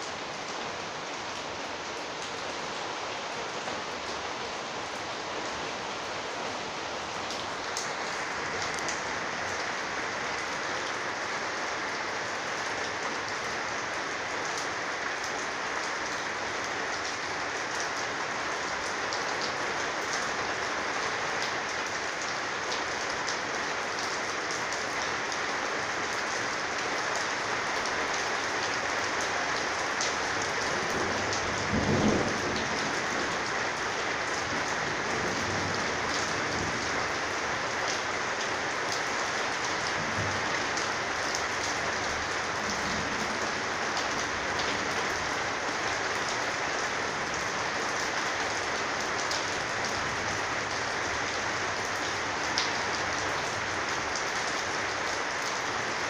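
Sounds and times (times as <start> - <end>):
heavy rain on a sheet roof: 0.0 - 56.0.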